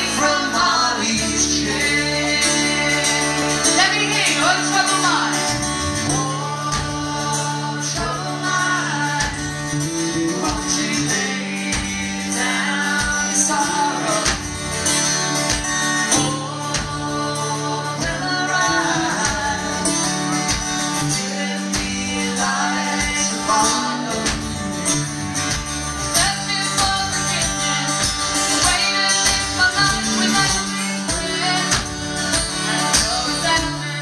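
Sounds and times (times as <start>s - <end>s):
woman singing: 0.0s - 24.7s, 26.1s - 34.0s
drums: 0.0s - 34.0s
strummed acoustic guitars: 0.0s - 34.0s.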